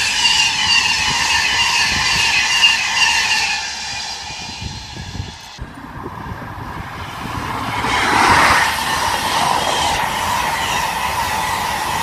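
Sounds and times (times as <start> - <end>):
train passing at speed: 0.0 - 12.0
train wheels rumbling on rails: 0.0 - 12.0.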